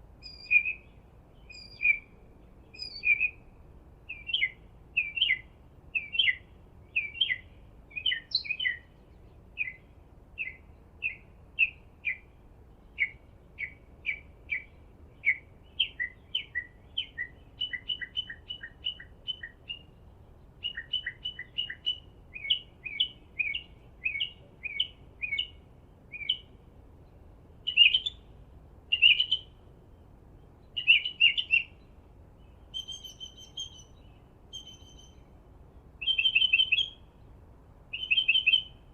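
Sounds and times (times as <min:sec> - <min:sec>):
bird chirping: 0:00.2 - 0:03.5, 0:04.1 - 0:37.3, 0:37.9 - 0:38.9.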